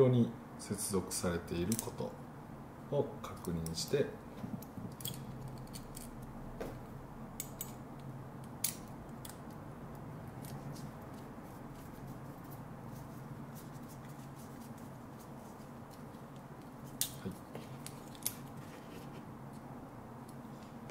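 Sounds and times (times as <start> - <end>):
low room hum: 0.0 - 20.9.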